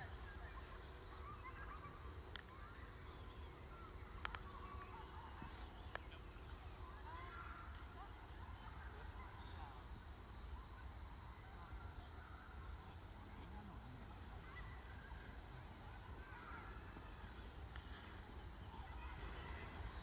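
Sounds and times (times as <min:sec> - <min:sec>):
faint distant voices: 0:00.0 - 0:20.0.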